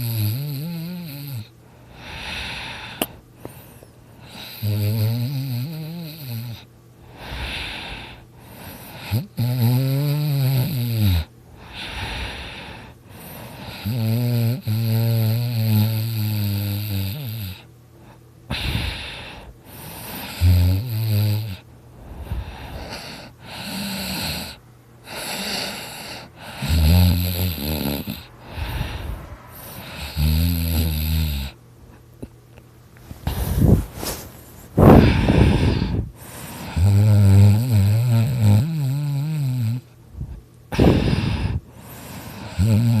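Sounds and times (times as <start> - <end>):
person snoring loudly: 0.0 - 3.1, 4.2 - 17.7, 18.5 - 21.6, 22.2 - 31.6, 34.8 - 39.9, 40.7 - 43.0
noisy breathing: 1.0 - 4.9, 6.0 - 9.4, 11.0 - 14.7, 16.0 - 32.3, 33.0 - 43.0.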